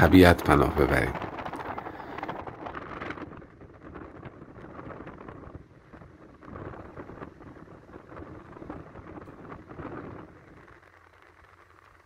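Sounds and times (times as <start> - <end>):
vehicle road noise: 0.0 - 12.0
wind buffeting microphone: 0.0 - 12.0.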